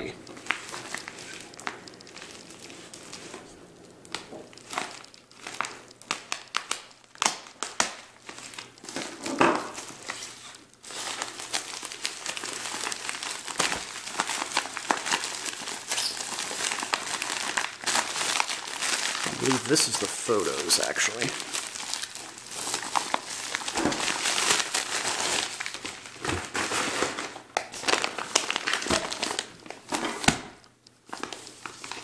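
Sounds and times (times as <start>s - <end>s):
bubble mailer crinkling: 0.0s - 32.0s.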